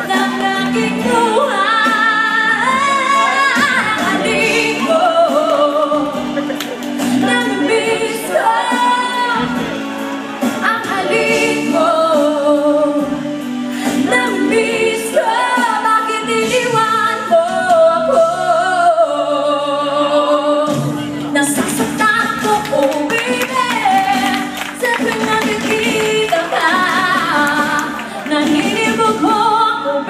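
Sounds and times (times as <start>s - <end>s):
woman singing into microphone: 0.0s - 9.9s, 10.5s - 30.0s
sustained musical accompaniment: 0.0s - 30.0s.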